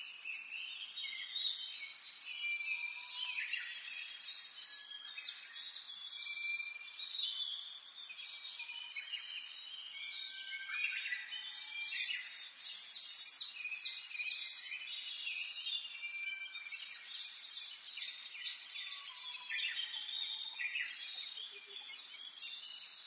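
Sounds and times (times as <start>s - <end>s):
songbirds chirping and singing: 0.0s - 23.0s.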